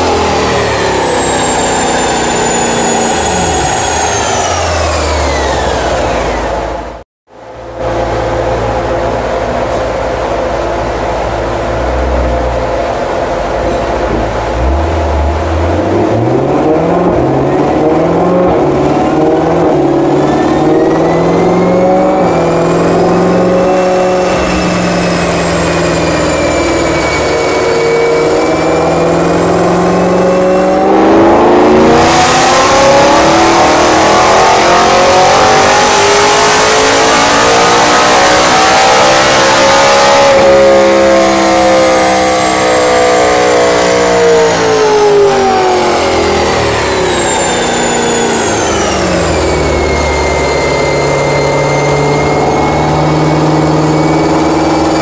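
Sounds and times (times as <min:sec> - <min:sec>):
car engine revving on dynamometer: 0:00.0 - 0:07.0, 0:07.8 - 0:55.0
high whine: 0:00.0 - 0:55.0.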